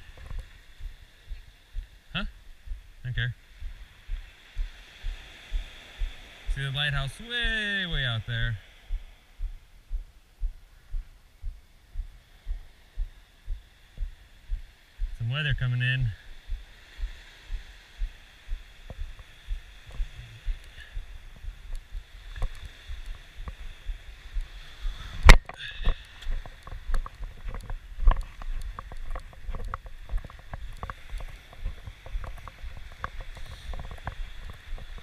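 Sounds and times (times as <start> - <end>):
surf washing ashore: 0.0 - 10.0, 11.7 - 35.0
footsteps on sand and pebbles: 3.6 - 35.0.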